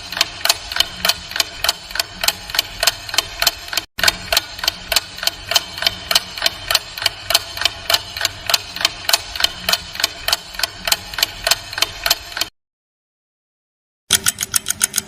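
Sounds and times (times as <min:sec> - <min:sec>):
clock ticking: 0:00.0 - 0:12.5, 0:14.1 - 0:15.0.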